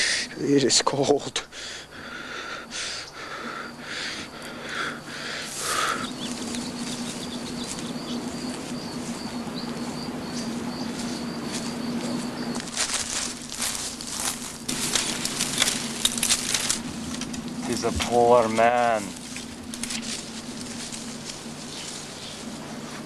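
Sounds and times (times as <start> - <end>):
steady low hum: 0.0 - 23.0
faint high whine: 3.0 - 23.0
dry brush and twigs rustling: 4.1 - 23.0.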